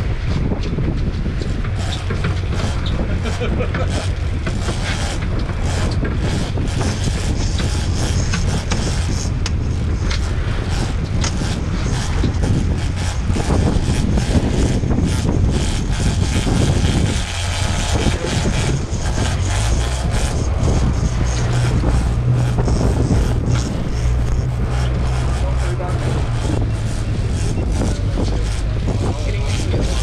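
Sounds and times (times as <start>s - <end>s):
outboard motors running: 0.0s - 30.0s
water noise: 0.0s - 30.0s
wind noise: 0.0s - 30.0s.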